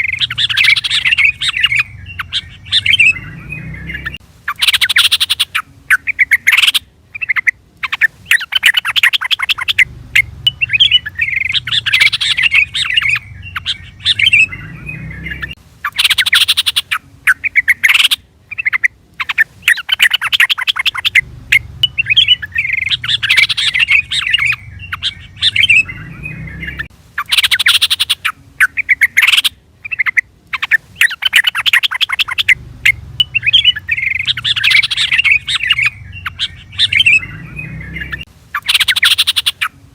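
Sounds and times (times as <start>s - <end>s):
bird chattering calls: 0.0s - 39.8s.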